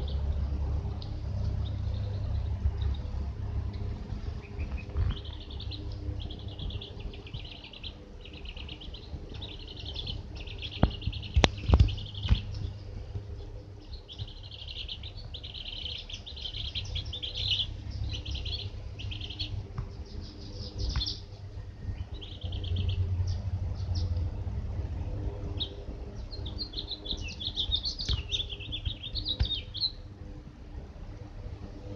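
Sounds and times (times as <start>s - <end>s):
chicks and ducklings peeping: 0.0s - 30.1s
steady low hum: 0.0s - 31.9s.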